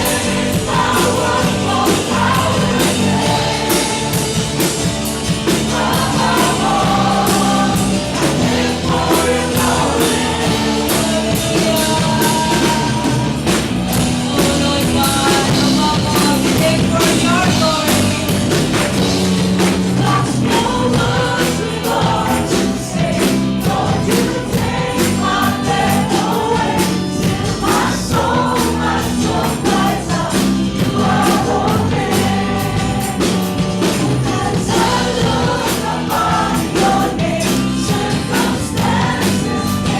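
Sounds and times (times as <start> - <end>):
group singing worship song: 0.0 - 39.9
live band playing: 0.0 - 39.9.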